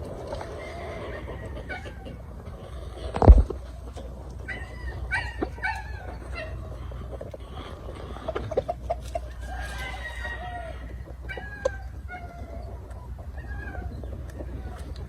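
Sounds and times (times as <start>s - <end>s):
chickens clucking and calling: 0.0s - 15.0s
steady low rumble: 0.0s - 15.0s.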